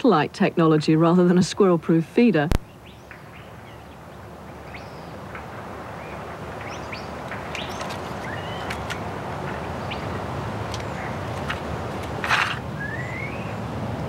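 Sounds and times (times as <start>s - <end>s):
outdoor background noise: 0.0s - 14.0s
small birds chirping: 2.5s - 13.8s.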